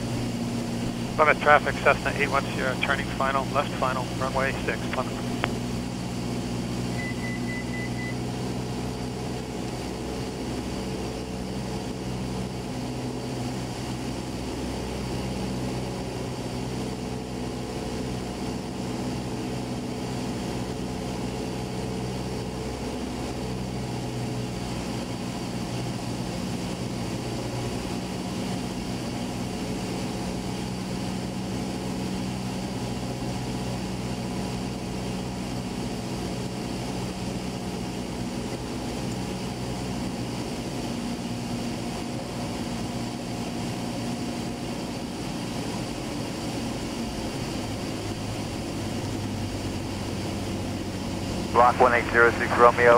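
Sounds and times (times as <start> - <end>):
airplane engine droning in cabin: 0.0 - 52.9.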